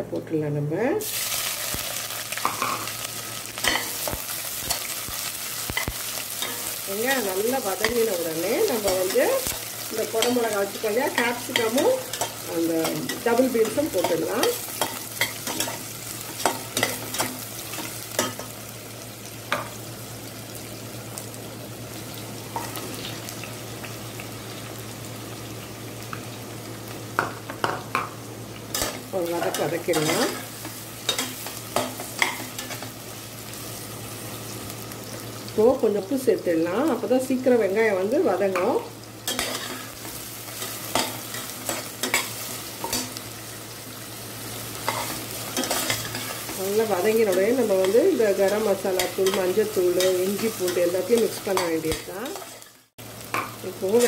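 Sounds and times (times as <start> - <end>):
onions sizzling in hot oil: 1.0 - 54.0.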